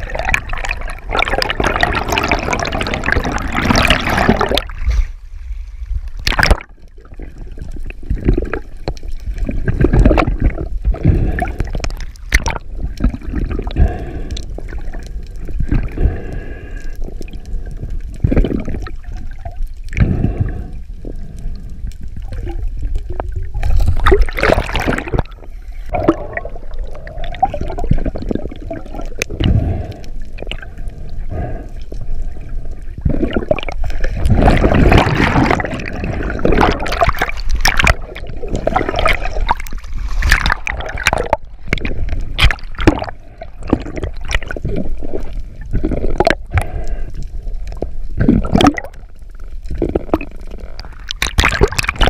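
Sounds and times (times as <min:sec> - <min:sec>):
muffled underwater water rush: 0:00.0 - 0:52.0.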